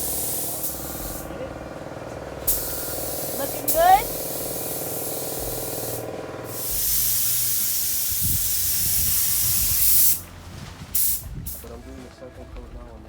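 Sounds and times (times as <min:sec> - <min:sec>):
paint sprayer hissing: 0:00.0 - 0:10.3, 0:10.9 - 0:11.7
machine humming: 0:00.0 - 0:11.6.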